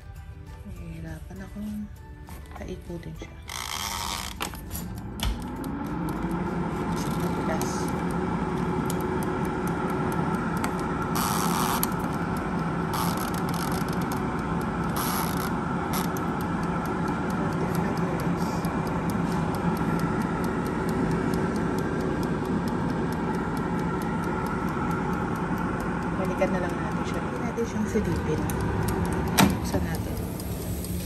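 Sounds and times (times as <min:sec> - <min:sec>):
air fryer fan whirring: 0:02.2 - 0:31.0
dial timer ticking: 0:05.4 - 0:31.0.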